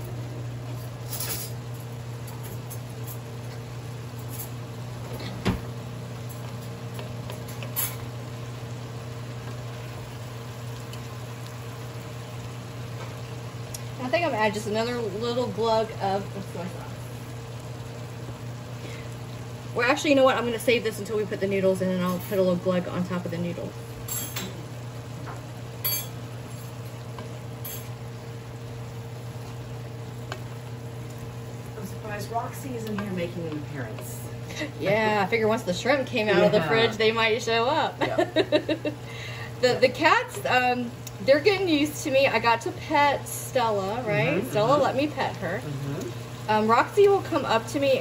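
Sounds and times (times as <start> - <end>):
meat sizzling in a pan: 0.0 - 48.0
microwave oven humming: 0.0 - 48.0.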